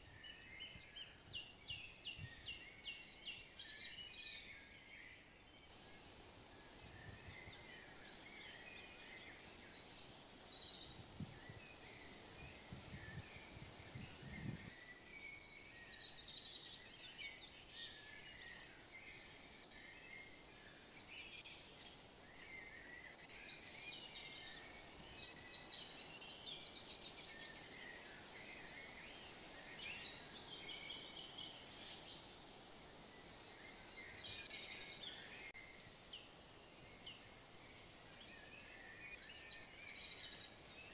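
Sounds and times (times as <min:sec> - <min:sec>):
songbirds chirping and singing: 0:00.0 - 0:40.9
steady outdoor hiss: 0:00.0 - 0:40.9.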